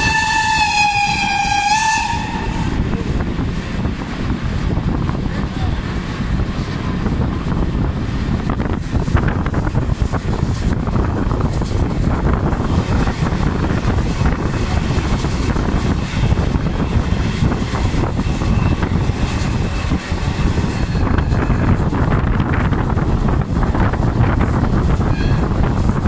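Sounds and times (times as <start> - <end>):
train rumbling on track: 0.0 - 26.0
wind buffeting microphone: 0.0 - 26.0.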